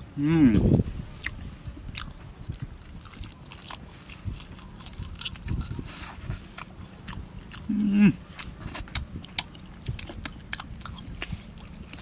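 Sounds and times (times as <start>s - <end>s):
man chewing food: 0.0s - 12.0s.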